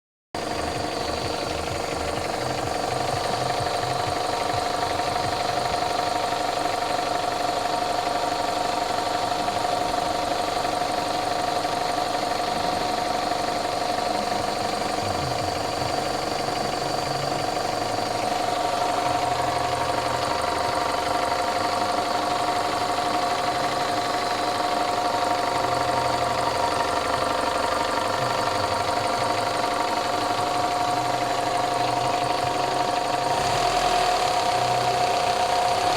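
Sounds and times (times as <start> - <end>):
engine ticking clatter: 0.4 - 35.9
petrol engine idling: 0.4 - 35.9.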